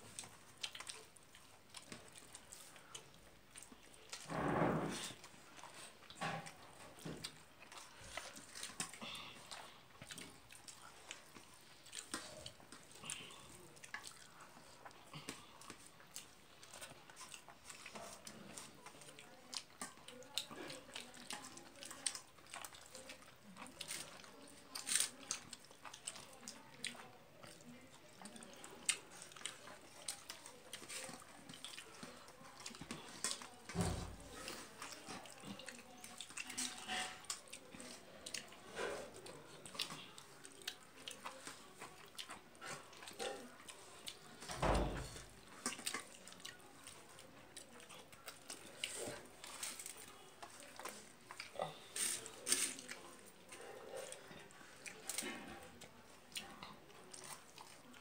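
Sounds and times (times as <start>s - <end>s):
wet chewing: 0.0s - 58.0s.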